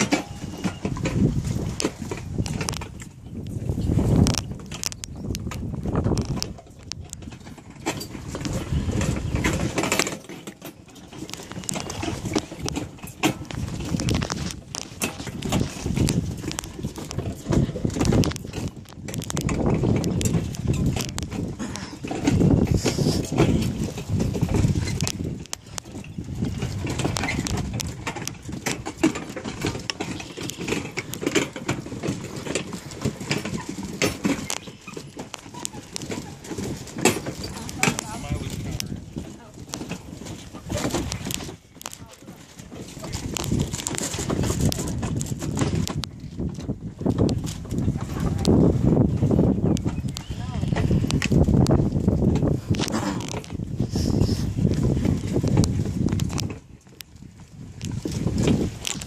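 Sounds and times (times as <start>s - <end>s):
footsteps on hollow boardwalk: 0.0s - 59.0s
rustling: 3.6s - 59.0s.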